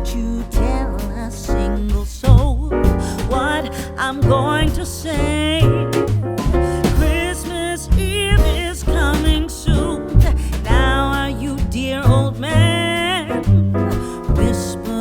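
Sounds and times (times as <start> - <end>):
person singing with vibrato: 0.0 - 15.0
piano: 0.0 - 15.0
steady bass beat: 0.0 - 15.0.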